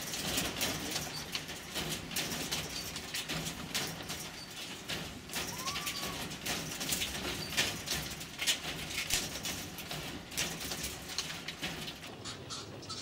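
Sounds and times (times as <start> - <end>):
wire mesh clicking and rattling: 0.0 - 13.0.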